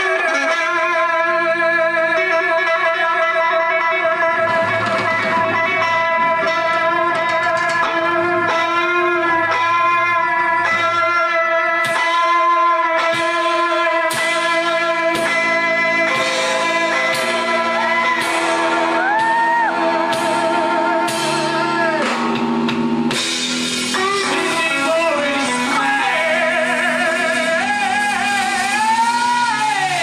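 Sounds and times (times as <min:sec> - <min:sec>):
person singing: 0:00.0 - 0:22.4, 0:23.8 - 0:30.0
drum kit: 0:00.0 - 0:30.0
electric guitar: 0:00.0 - 0:30.0.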